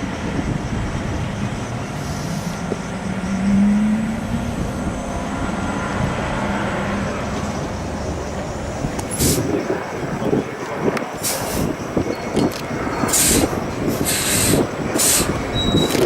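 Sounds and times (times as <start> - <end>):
heavy truck rumbling: 0.0 - 16.0.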